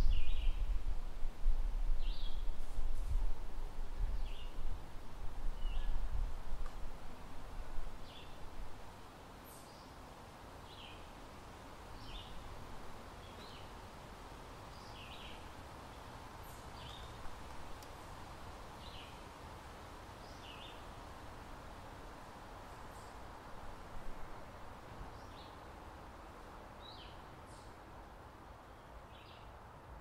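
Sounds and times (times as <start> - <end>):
steady hiss: 0.0 - 28.8.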